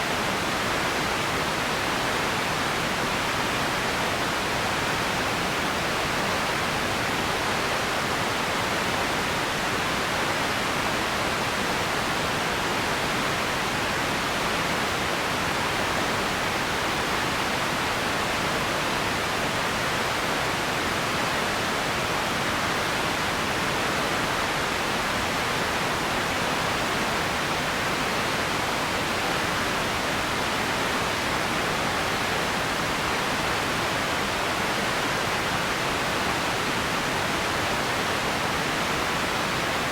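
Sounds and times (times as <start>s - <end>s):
steady hiss-like noise: 0.0s - 39.9s.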